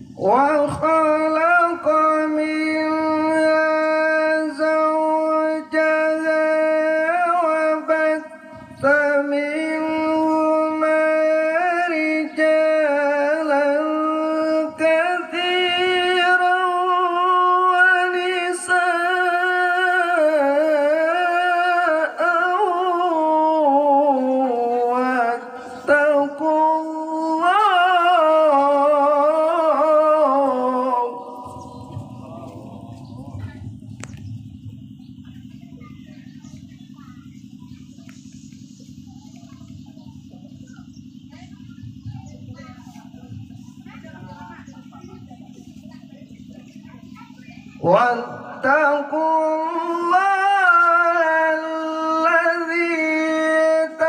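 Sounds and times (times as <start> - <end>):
person reciting in melodious chant: 0.0 - 38.1, 42.6 - 54.0.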